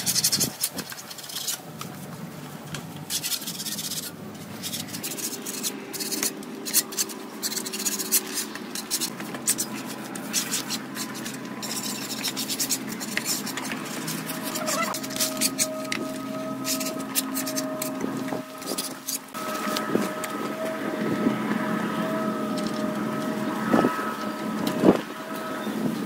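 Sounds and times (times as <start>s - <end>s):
hand tools scraping a wall: 0.0s - 1.7s, 3.0s - 25.6s.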